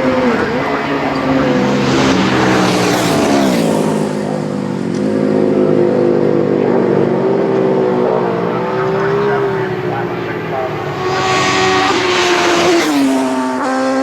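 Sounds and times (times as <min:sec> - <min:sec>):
motorcycle passing at high revs: 0:00.0 - 0:14.0.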